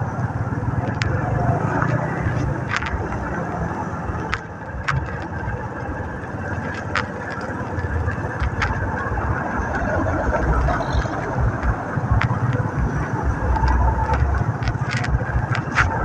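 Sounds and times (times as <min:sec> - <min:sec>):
motorcycle engines running: 0:00.0 - 0:16.0
low rumble on microphone: 0:00.6 - 0:16.0
sharp clicks: 0:00.8 - 0:16.0.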